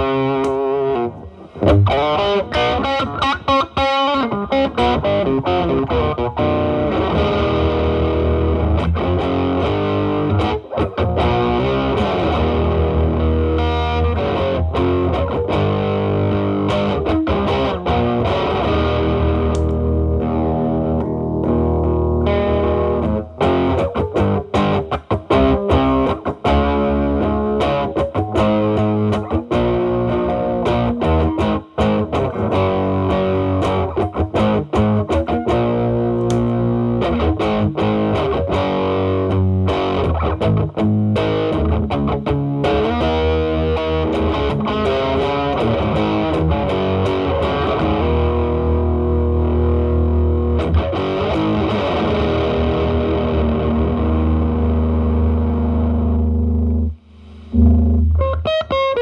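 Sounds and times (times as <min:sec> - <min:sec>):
overdriven electric guitar: 0:00.0 - 0:59.0.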